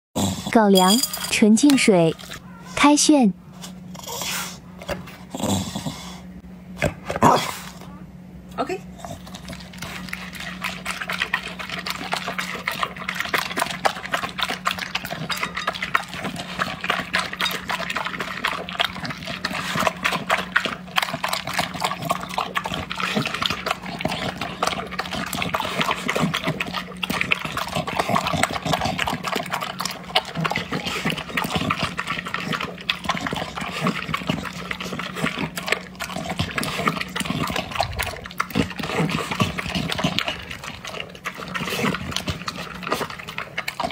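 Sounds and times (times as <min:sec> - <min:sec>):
dog eating wet food: 0:00.2 - 0:02.7, 0:08.9 - 0:43.9.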